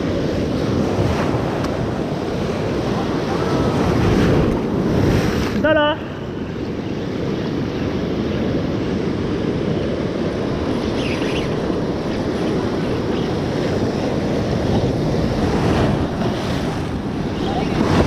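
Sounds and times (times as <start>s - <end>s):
surf washing against rocks: 0.0s - 6.4s, 7.6s - 18.0s
wind buffeting microphone: 0.0s - 18.0s.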